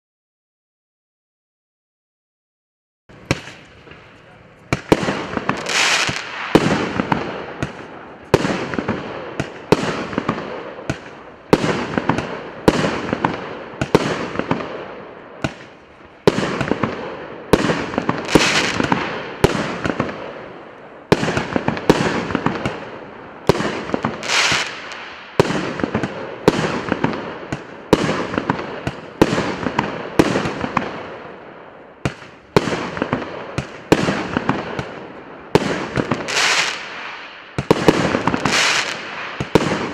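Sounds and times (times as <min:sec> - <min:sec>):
fireworks bangs with bursts: 0:03.1 - 0:39.9.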